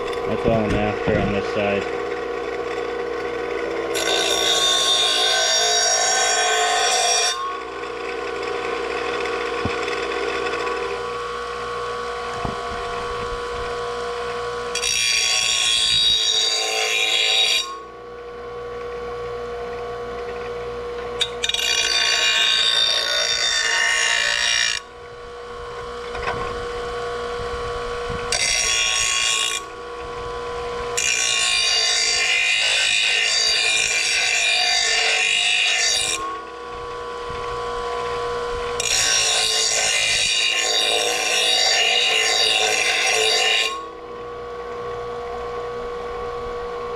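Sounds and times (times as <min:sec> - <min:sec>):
grinder grinding steel blade: 0:00.0 - 0:18.0, 0:20.0 - 0:46.8
electric grinder running: 0:00.0 - 0:46.9.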